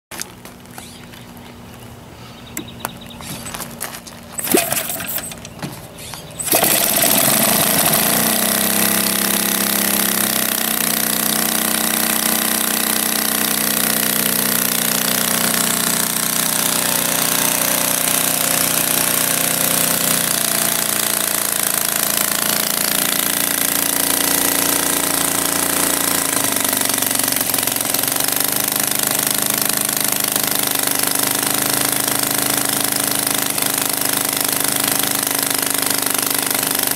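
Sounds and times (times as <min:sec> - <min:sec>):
model aircraft engine running: 0:00.3 - 0:36.9
propeller flipped by hand: 0:02.5 - 0:36.9.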